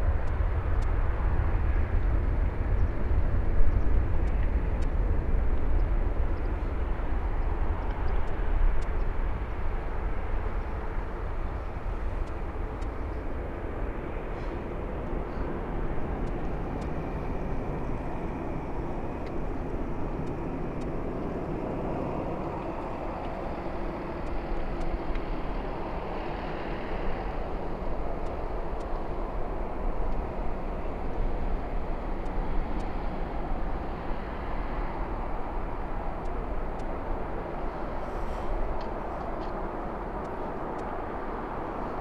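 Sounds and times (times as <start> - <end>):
faint high whine: 0.0 - 42.0
jet engines rumbling: 0.0 - 42.0.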